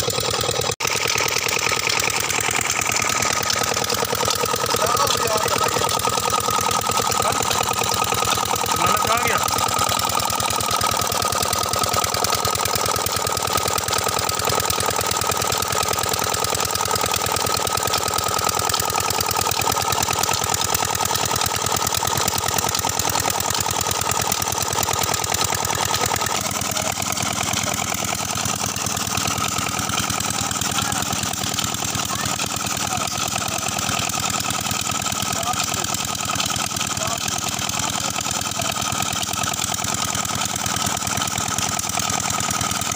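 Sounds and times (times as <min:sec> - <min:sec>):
diesel engine running steadily: 0:00.0 - 0:42.9.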